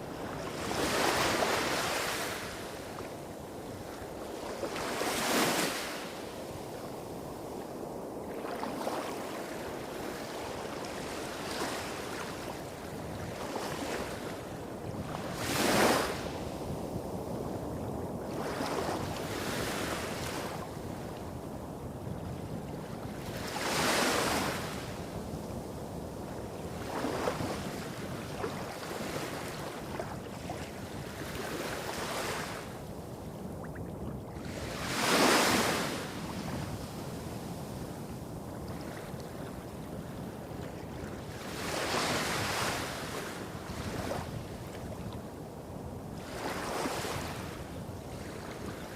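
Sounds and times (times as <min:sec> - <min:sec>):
small waves breaking on a beach: 0:00.0 - 0:48.9.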